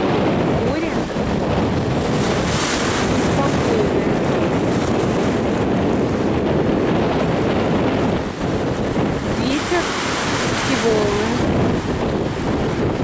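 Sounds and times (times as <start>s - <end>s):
small waves breaking: 0.0s - 13.0s
wind buffeting microphone: 0.0s - 13.0s.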